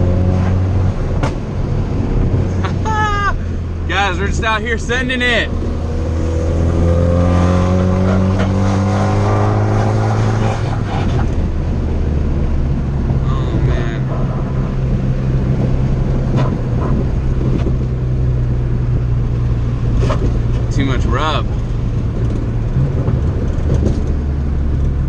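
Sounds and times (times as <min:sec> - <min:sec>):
car engine driven hard: 0:00.0 - 0:25.0.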